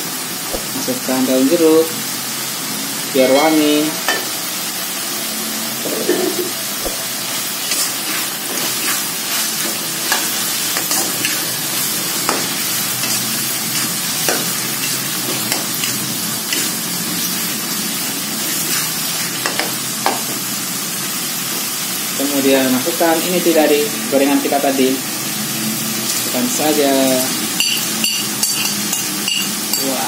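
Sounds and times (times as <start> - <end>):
paste sizzling in a wok: 0.0 - 30.0.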